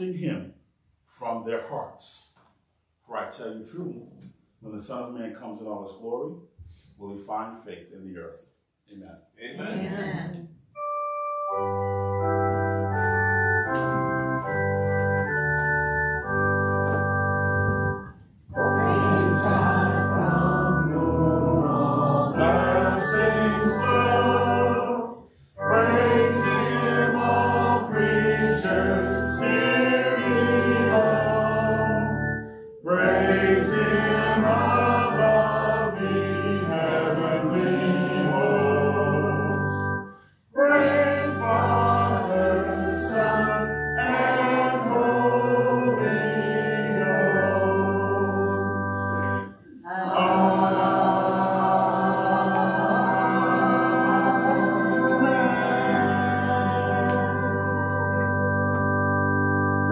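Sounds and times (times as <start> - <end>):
organ playing hymn chords: 10.7 - 59.9
congregation singing a hymn: 11.6 - 59.9.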